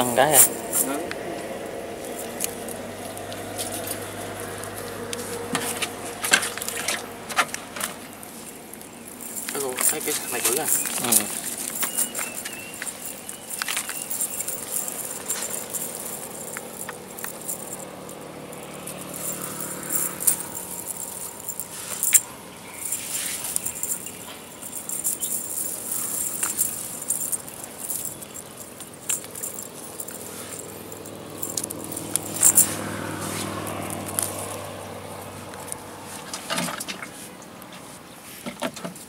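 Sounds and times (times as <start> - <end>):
lead sinkers rattling and clinking: 0.0 - 4.7, 5.5 - 34.7.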